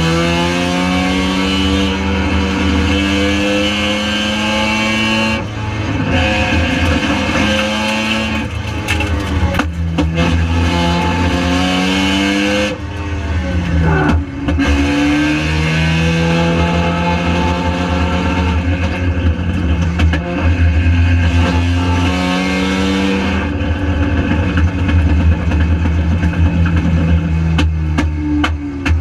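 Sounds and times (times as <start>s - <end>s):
rotary engine at high revs: 0.0s - 28.6s.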